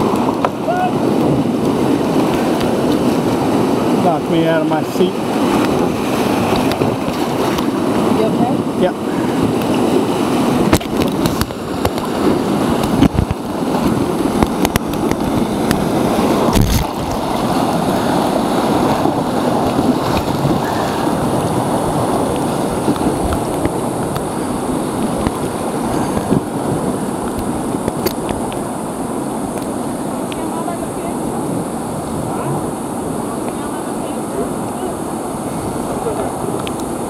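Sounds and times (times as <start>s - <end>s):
river rapids rushing: 0.0s - 37.0s.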